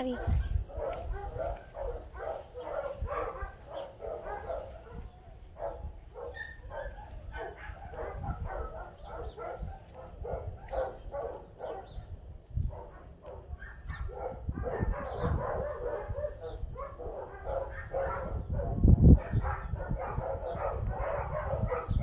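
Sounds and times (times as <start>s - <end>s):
dog barking: 0.0s - 22.0s.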